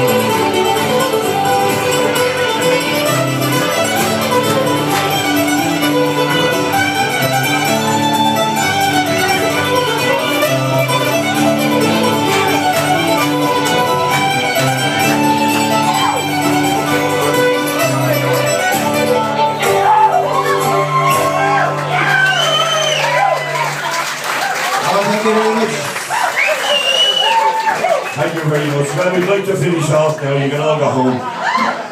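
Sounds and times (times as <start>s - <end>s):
guitar accompaniment: 0.0s - 27.3s
fiddles playing fast melody: 0.0s - 30.0s.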